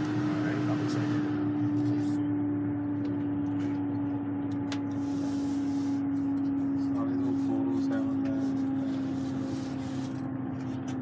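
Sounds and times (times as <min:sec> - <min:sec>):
bus engine hum: 0:00.0 - 0:11.0
road noise: 0:00.0 - 0:11.0.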